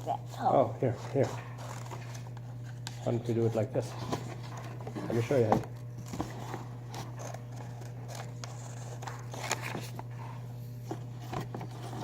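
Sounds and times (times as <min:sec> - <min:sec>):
steady low hum: 0:00.0 - 0:12.0
paper handling: 0:00.9 - 0:12.0.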